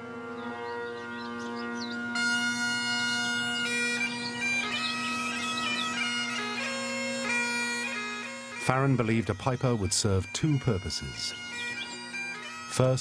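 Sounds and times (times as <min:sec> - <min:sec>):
bagpipes playing: 0:00.0 - 0:13.0.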